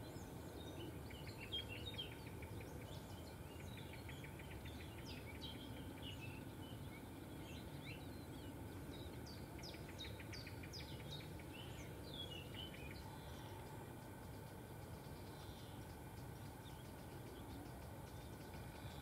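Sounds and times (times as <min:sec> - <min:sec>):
small birds singing and chirping: 0:00.0 - 0:19.0.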